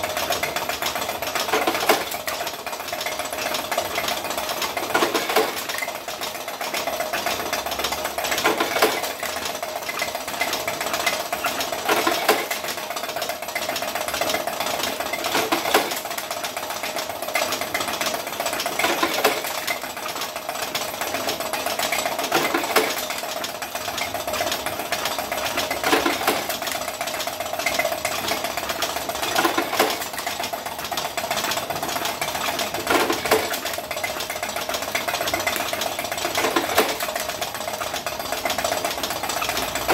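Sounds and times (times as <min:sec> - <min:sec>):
fast mechanical clatter: 0:00.0 - 0:39.9
loud machine clack: 0:00.0 - 0:39.9.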